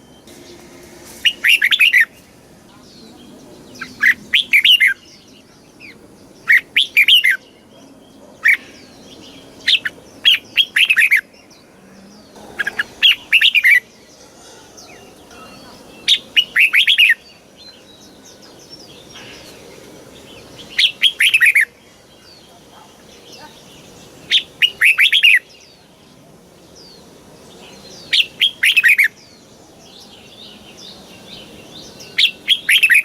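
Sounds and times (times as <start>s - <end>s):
faint calls of other birds: 0.0s - 33.0s.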